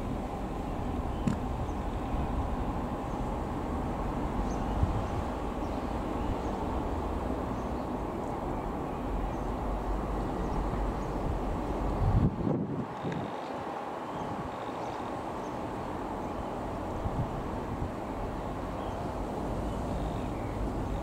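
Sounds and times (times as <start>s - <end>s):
jet airliner low rumble: 0.0s - 21.0s.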